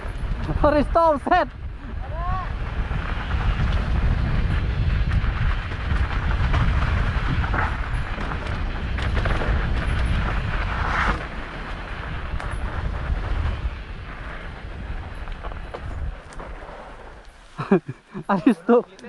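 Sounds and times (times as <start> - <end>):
bike frame and chain clattering: 0.0 - 18.8
wind and tyre rumble: 0.0 - 19.0.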